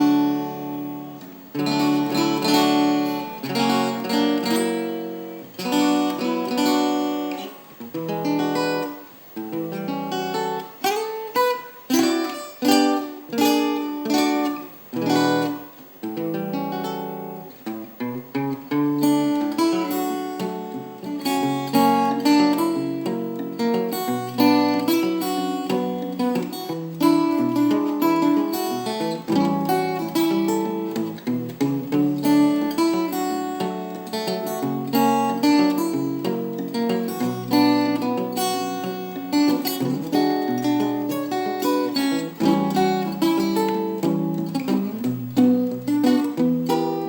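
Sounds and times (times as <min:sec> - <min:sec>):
fingerpicked guitar: 0:00.0 - 0:47.0.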